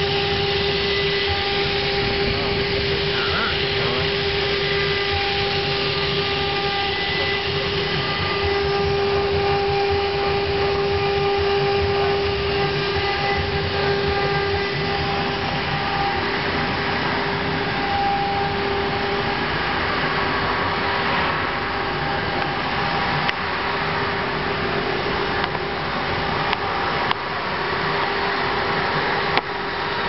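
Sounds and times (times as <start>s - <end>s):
cnc router whining: 0.0s - 30.0s.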